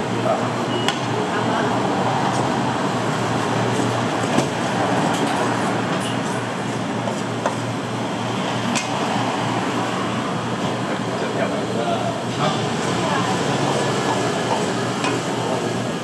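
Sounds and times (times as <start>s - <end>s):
loud rumbling background noise: 0.0s - 16.0s.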